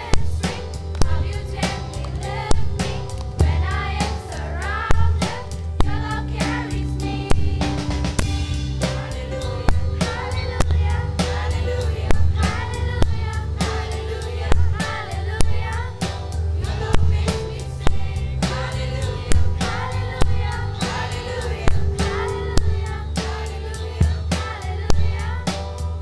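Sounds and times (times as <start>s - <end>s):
drum beat and heavy bass: 0.0s - 26.0s
girls' choir singing: 0.0s - 26.0s.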